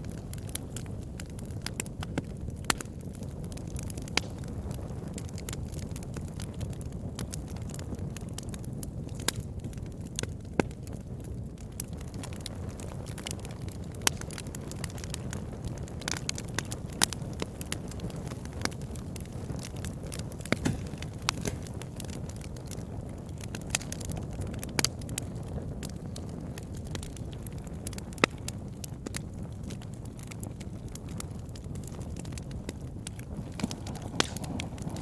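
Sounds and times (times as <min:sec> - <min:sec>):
sharp fire pops: 0:00.0 - 0:08.0, 0:11.6 - 0:35.0
campfire burning: 0:00.0 - 0:35.0
fire crackles and snaps: 0:00.0 - 0:35.0.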